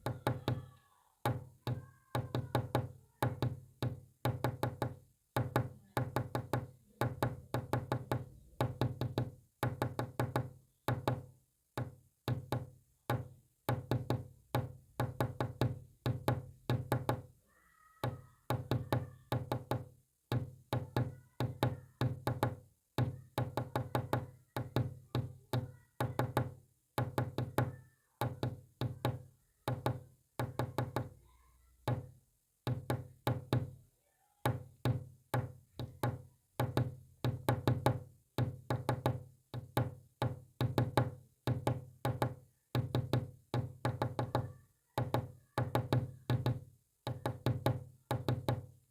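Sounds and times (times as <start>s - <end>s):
rapid knocking taps: 0.0s - 17.3s, 18.0s - 31.2s, 31.8s - 33.8s, 34.4s - 48.8s.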